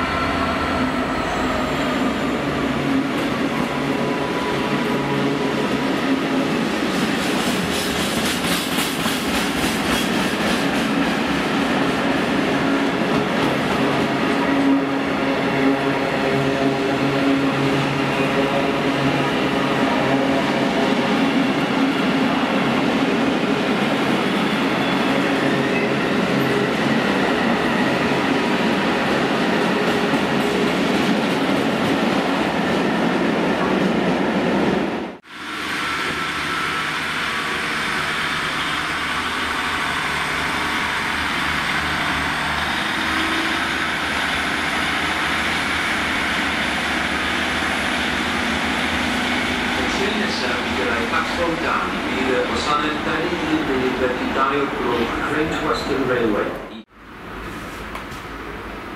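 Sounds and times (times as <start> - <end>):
diesel passenger train rumble: 0.0 - 34.0, 34.8 - 58.9
freight train rumbling past: 0.0 - 58.9.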